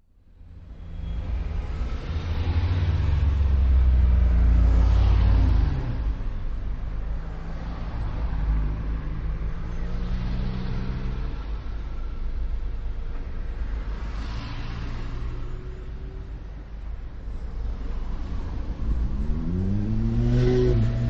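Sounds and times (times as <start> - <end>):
vehicle engine rumbling: 0.4 - 21.0.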